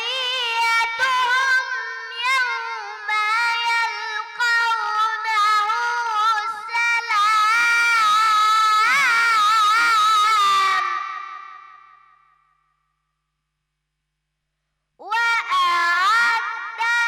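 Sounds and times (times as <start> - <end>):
child chanting melodically: 0.0 - 12.1, 15.0 - 17.0.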